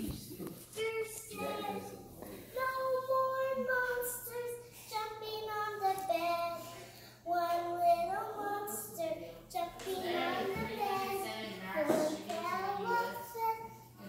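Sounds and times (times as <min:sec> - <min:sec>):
child singing in a high voice: 0:00.8 - 0:02.0, 0:02.6 - 0:13.8.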